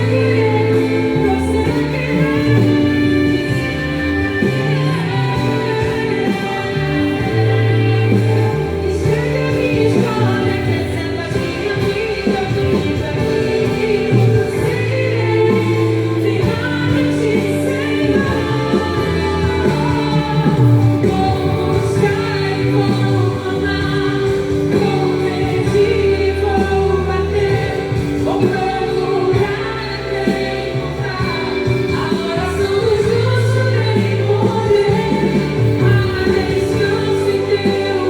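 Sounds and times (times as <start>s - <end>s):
gospel song with vocals: 0.0s - 38.0s.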